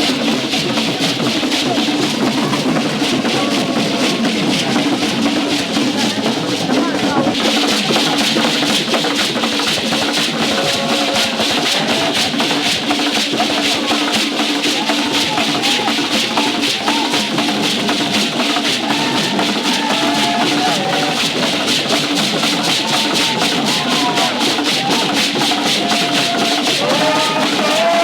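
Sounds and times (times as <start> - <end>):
shaker and drum rhythm: 0.0 - 28.0.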